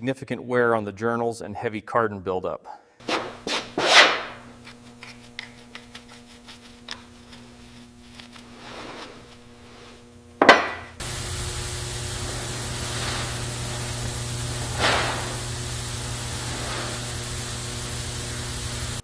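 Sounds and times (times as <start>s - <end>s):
steady hiss and hum: 3.0s - 19.0s.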